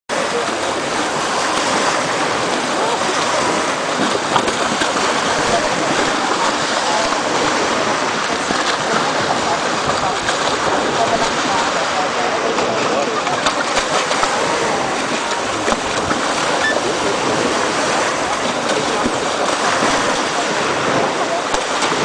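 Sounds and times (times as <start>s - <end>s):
wash of the sea: 0.1s - 22.0s
water splashing and churning: 0.1s - 22.0s.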